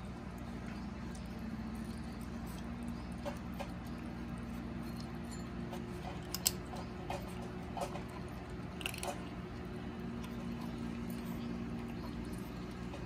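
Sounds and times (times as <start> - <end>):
cats crunching dry kibble: 0.0 - 13.0.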